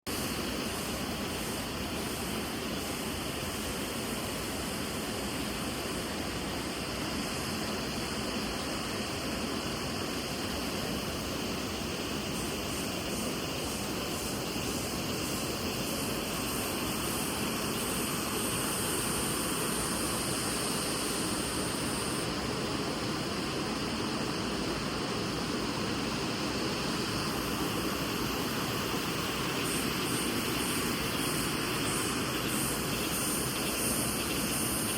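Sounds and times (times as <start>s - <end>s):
river rushing over rocks: 0.3s - 34.9s.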